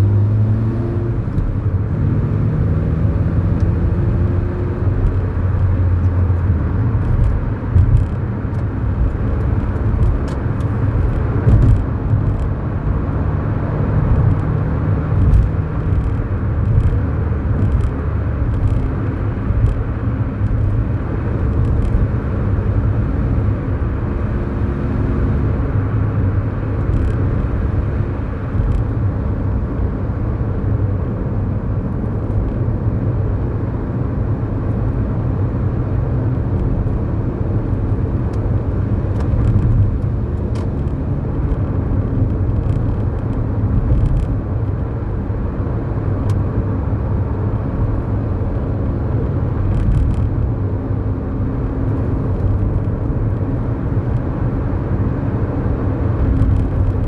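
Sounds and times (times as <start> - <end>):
car engine cruising: 0.0 - 57.0
road rumble: 0.0 - 57.0.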